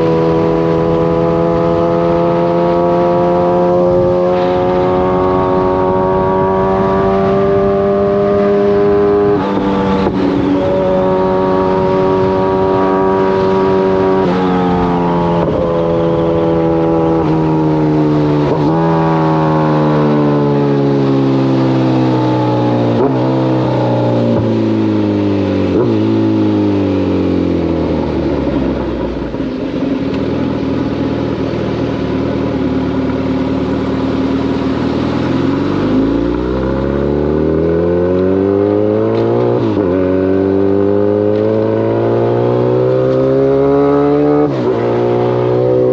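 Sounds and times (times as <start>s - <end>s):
motorcycle engine slowing and accelerating: 0.0s - 45.9s.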